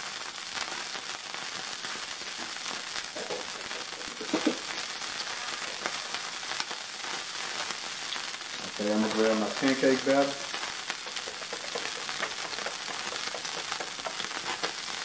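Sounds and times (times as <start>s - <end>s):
fat sizzling in a pan: 0.0s - 15.0s.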